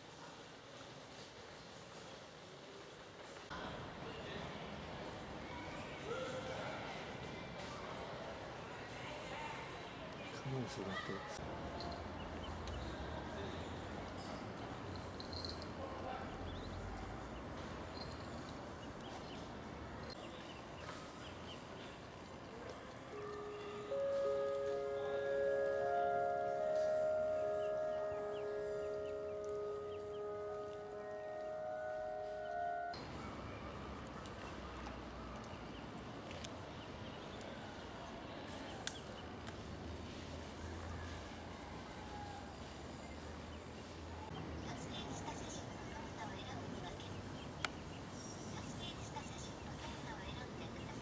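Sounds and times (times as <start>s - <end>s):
low background noise: 0.0s - 51.0s.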